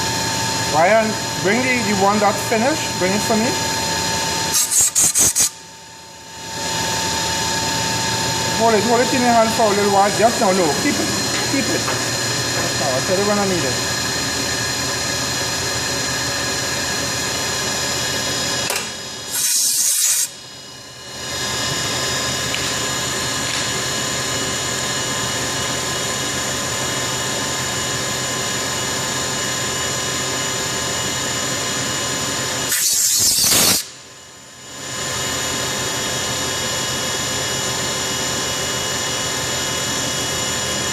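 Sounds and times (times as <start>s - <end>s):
cnc machine whirring: 0.0s - 40.9s.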